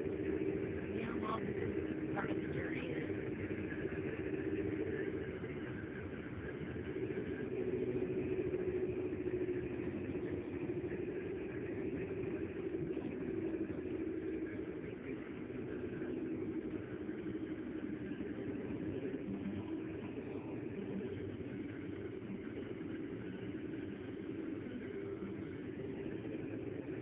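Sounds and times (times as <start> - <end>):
car engine and tyre drone: 0.0 - 27.0.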